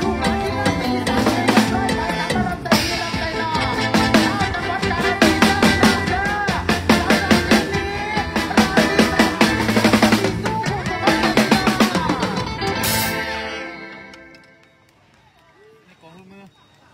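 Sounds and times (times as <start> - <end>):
drum kit beat: 0.0 - 14.2
band music: 0.0 - 15.0.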